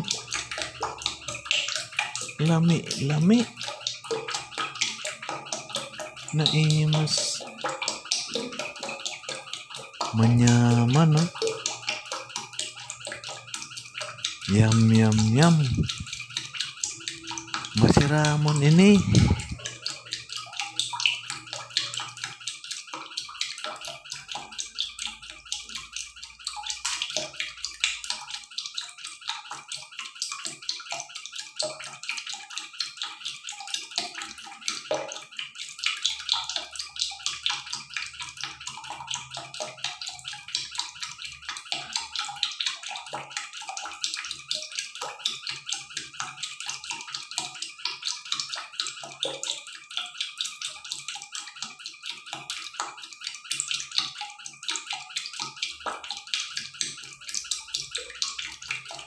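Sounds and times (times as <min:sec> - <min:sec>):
hissing crackle of rapid ticks: 0:00.0 - 0:59.0.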